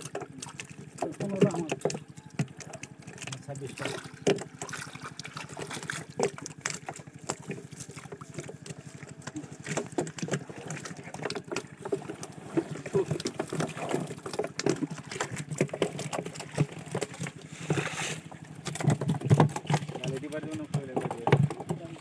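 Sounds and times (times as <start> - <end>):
water splashing and dripping: 0.0 - 22.0.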